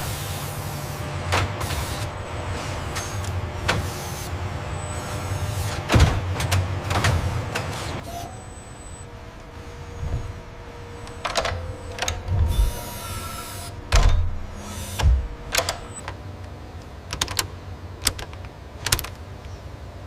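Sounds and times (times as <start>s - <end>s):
machinery clicking and clunking: 0.0s - 19.6s.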